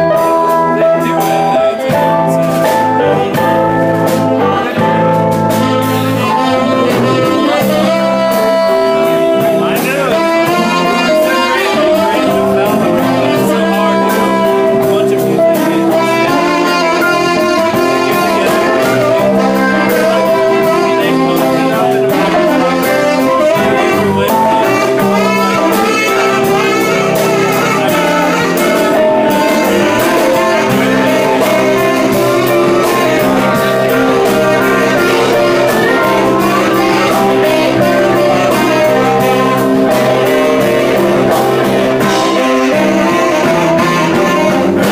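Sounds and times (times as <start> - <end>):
live jazz band: 0.0 - 44.9
saxophone lead: 0.0 - 44.9.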